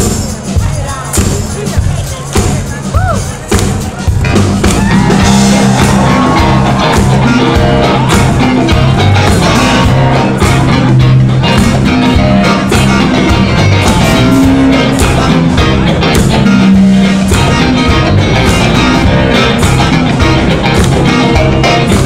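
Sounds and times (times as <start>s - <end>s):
drum kit beat: 0.0s - 22.0s
live band playing: 0.0s - 22.0s.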